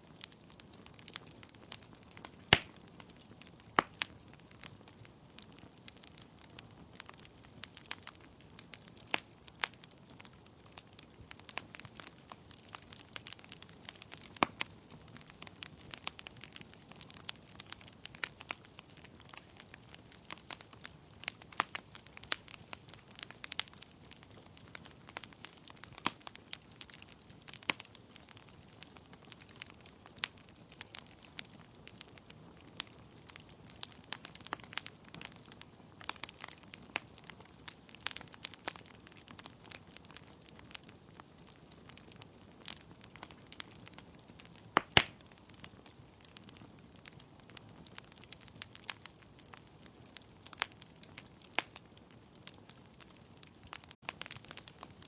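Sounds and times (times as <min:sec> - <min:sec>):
logs crackling in a fire: 0:00.0 - 0:55.0.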